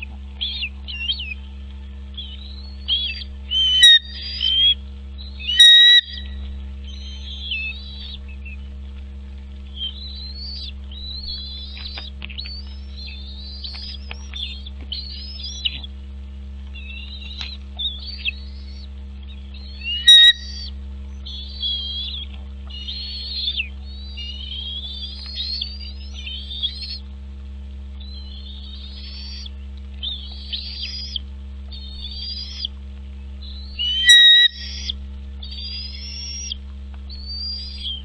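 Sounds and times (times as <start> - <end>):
piercing bird calls: 0.0 - 8.8, 9.7 - 16.0, 16.6 - 27.1, 27.9 - 38.0
birds chirping: 0.0 - 38.0
steady low hum: 0.0 - 38.0.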